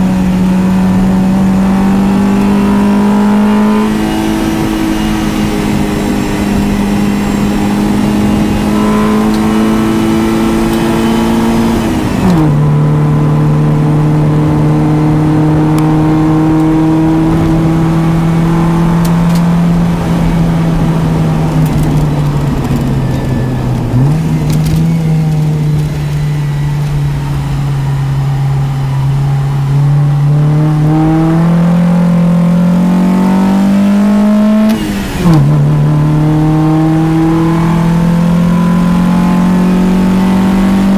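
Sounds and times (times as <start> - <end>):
car engine revving from inside cabin: 0.0 - 40.9.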